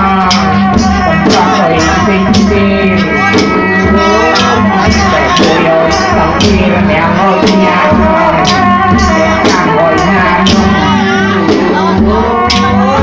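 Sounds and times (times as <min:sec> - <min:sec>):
drum strikes: 0:00.0 - 0:13.0
wavering melody line: 0:00.0 - 0:13.0.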